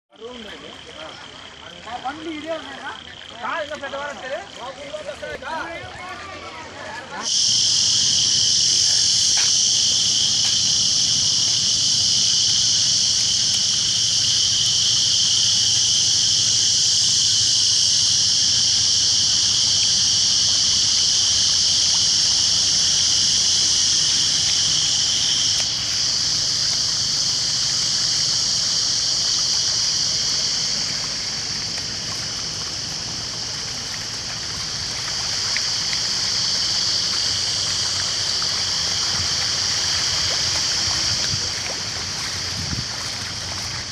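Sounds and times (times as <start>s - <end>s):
floodwater rushing: 0.1s - 43.9s.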